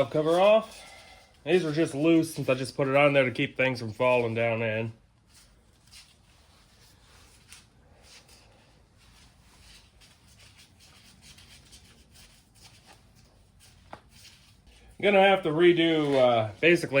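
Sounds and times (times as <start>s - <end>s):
faint rubbing and scraping: 0.0s - 17.0s.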